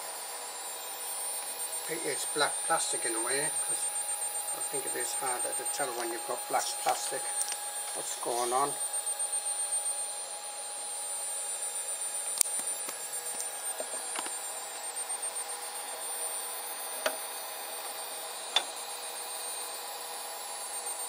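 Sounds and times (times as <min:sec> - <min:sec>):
high-pitched electronic whine: 0:00.0 - 0:21.0.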